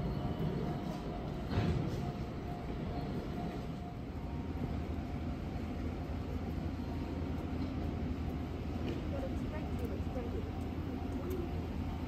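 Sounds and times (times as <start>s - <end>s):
distant electric train rumble: 0.0s - 12.0s.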